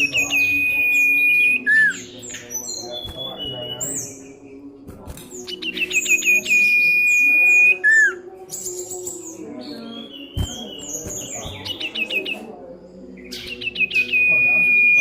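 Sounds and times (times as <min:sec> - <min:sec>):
bird chirping and whistling: 0:00.0 - 0:04.4, 0:05.2 - 0:12.4, 0:13.3 - 0:15.0.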